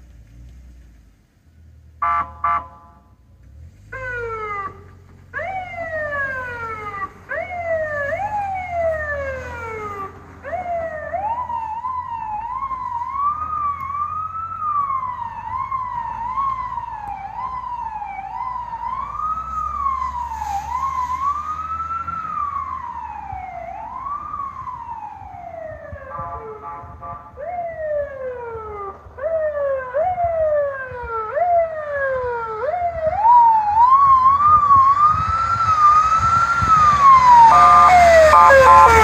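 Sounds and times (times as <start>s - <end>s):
electronic siren wailing: 5.4s - 39.0s.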